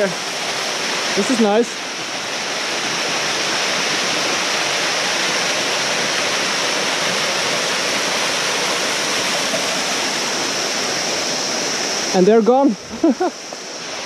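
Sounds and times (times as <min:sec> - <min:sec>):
waterfall splashing into pool: 0:00.0 - 0:12.2.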